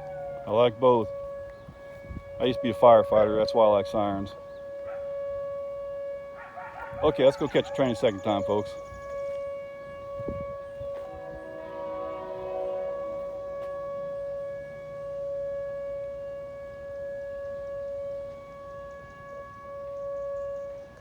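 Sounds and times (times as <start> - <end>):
chord-like siren tone: 0.0 - 21.0
warning siren wailing: 0.0 - 21.0.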